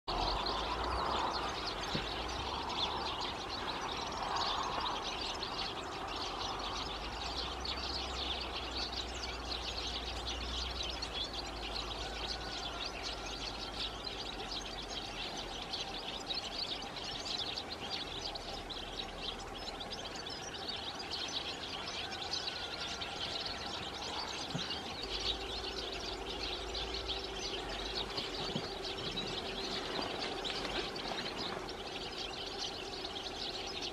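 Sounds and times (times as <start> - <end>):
finches twittering: 0.1 - 33.9.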